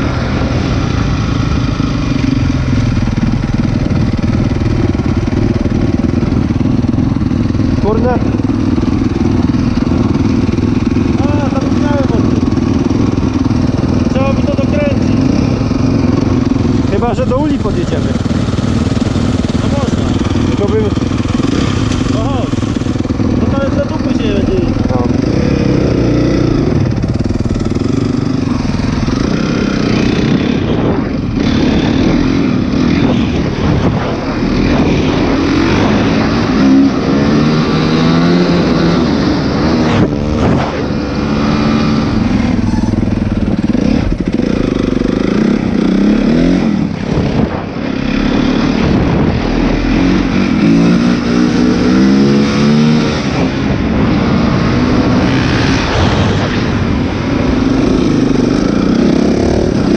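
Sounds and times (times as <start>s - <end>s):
motocross bike engine revving: 0.0s - 59.9s
wind rushing over microphone: 0.0s - 59.9s.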